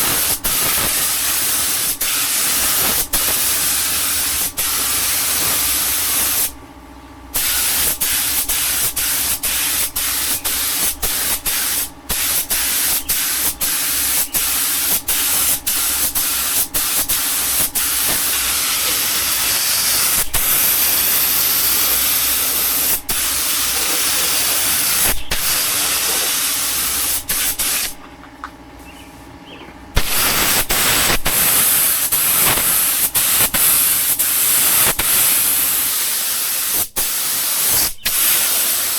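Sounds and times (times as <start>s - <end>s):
paint spraying hiss: 0.0s - 6.6s, 7.4s - 28.0s, 30.0s - 38.9s.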